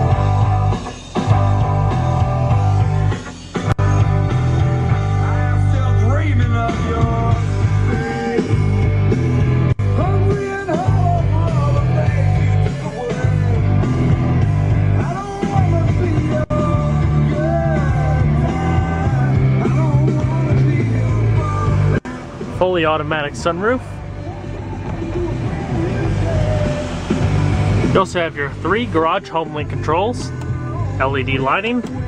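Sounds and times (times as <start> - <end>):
rock music on car stereo: 0.0 - 32.0.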